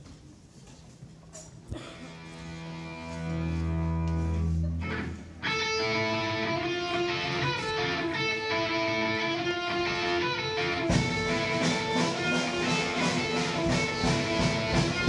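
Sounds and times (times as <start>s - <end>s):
electric guitars and bass playing: 2.1s - 15.0s.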